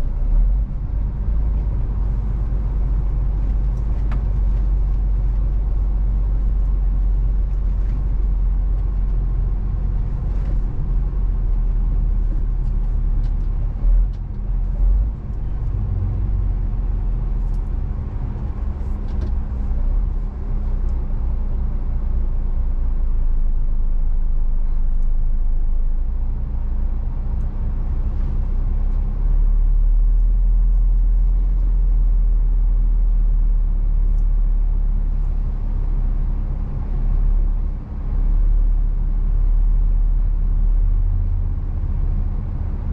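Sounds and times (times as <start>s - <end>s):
road noise: 0.0s - 42.9s
truck diesel engine rumble: 0.0s - 42.9s.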